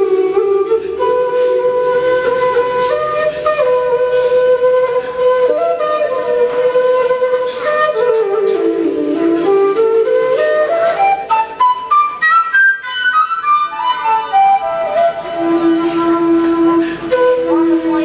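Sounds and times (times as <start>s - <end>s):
bamboo flute melody: 0.0s - 18.0s.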